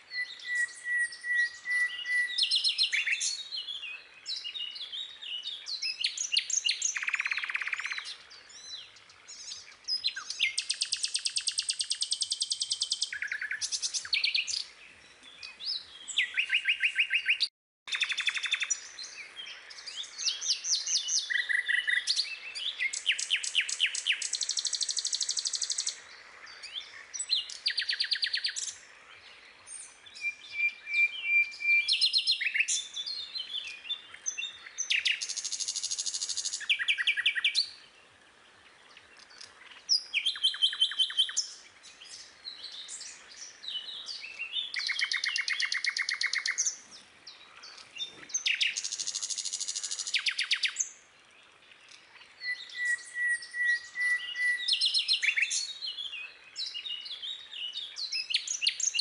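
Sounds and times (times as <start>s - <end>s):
birds chirping and singing: 0.0s - 59.0s.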